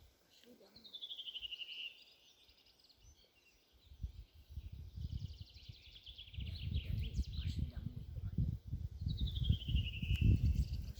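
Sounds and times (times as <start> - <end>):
small birds trilling: 0.3 - 10.9.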